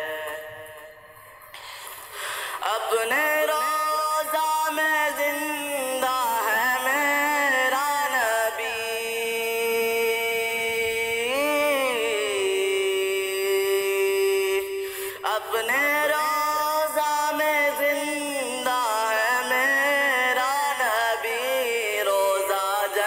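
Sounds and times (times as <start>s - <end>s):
unaccompanied voice singing: 0.0s - 1.1s, 2.6s - 23.0s.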